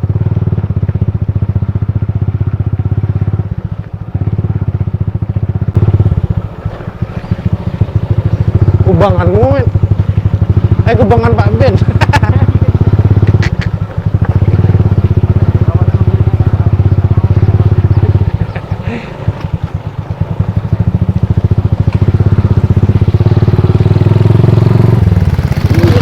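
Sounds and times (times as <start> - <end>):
motorcycle engine low pulsing: 0.0 - 26.0.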